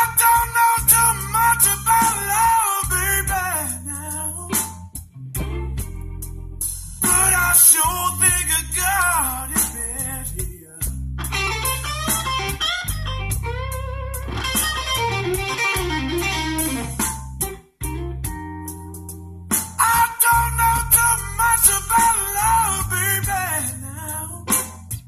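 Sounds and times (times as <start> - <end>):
blues guitar music on car stereo: 0.0 - 25.0.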